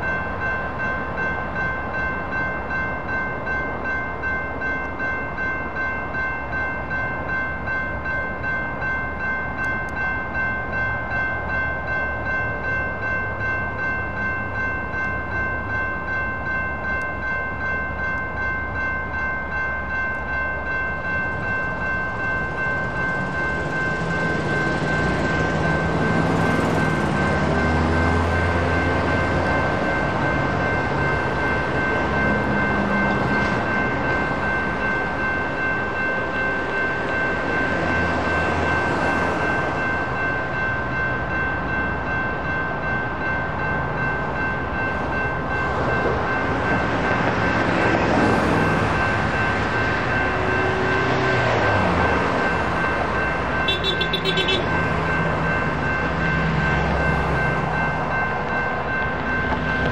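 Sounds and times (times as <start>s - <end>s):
railroad crossing bell ringing: 0.0s - 59.9s
train rumbling past: 0.0s - 59.9s.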